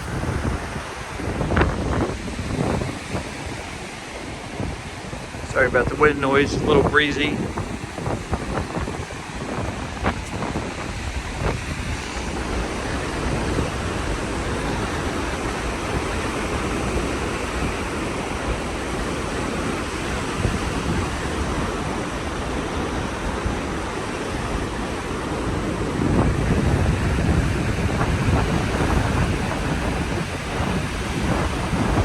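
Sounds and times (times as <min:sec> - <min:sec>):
ocean surf on beach: 0:00.0 - 0:32.0
wind buffeting microphone: 0:00.0 - 0:32.0.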